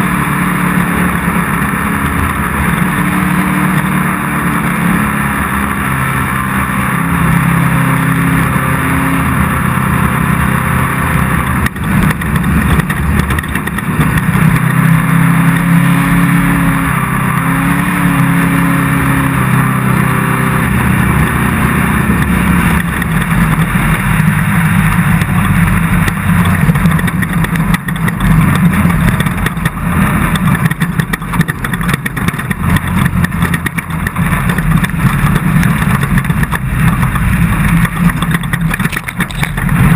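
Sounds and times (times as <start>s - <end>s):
race car engine revving: 0.0s - 39.9s
steady noisy rush: 0.0s - 39.9s.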